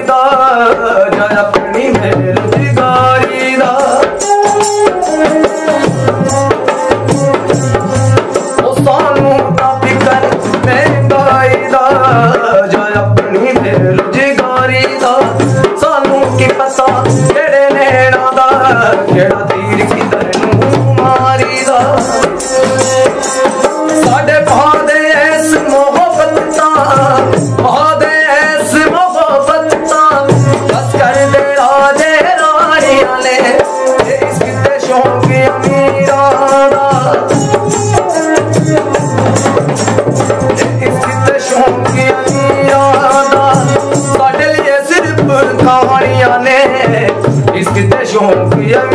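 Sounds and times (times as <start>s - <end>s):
man singing a folk song: 0.0s - 48.9s
steady percussion beat: 0.1s - 48.9s.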